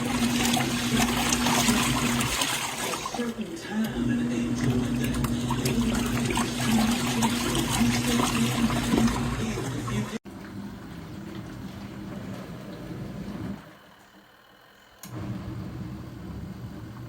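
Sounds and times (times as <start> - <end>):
water churning in a tub: 0.0 - 13.9
washing machine motor humming: 0.0 - 17.0.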